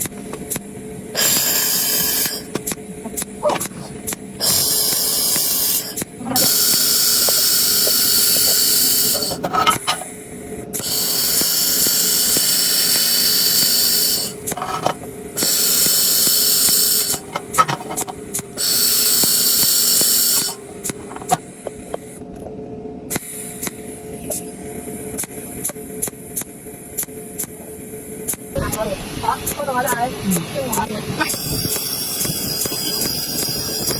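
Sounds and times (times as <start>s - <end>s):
welding torch hissing: 0.0s - 22.2s, 28.2s - 33.9s.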